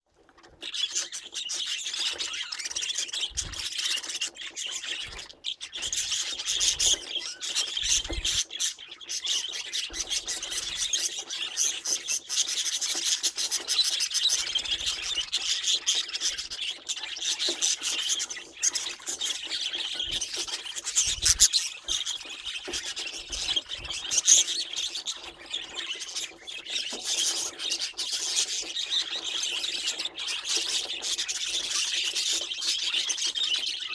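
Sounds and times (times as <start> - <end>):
budgerigars chattering: 0.6 - 33.9.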